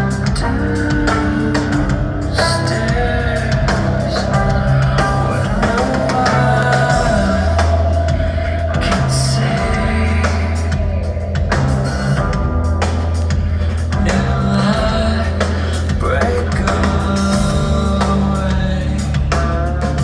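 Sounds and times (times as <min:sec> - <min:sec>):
band playing rock music: 0:00.0 - 0:20.0.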